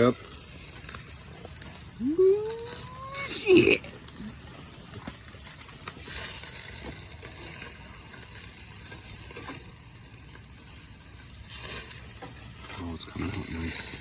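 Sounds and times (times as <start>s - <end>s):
hot dogs sizzling on a grill: 0.0s - 14.0s.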